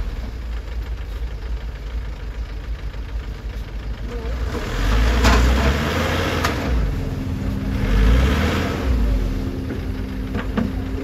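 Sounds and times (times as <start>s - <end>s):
diesel engine running and revving: 0.0s - 11.0s.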